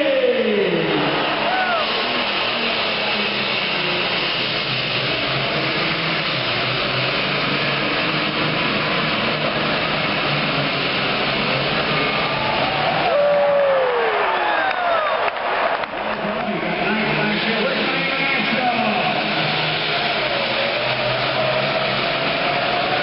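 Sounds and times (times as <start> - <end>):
diesel tractor engine at full throttle: 0.0 - 13.7, 15.7 - 23.0.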